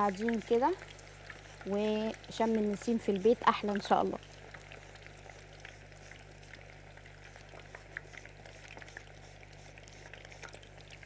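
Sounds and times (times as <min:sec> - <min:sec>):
potato slices frying in oil: 0:00.0 - 0:11.0
steady low hum: 0:00.0 - 0:11.0.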